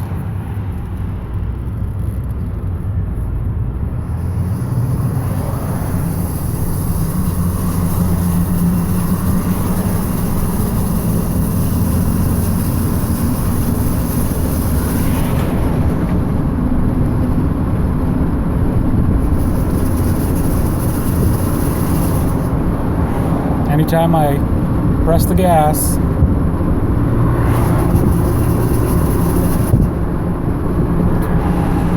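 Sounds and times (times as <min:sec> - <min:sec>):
engine running with low drone: 0:00.0 - 0:31.9.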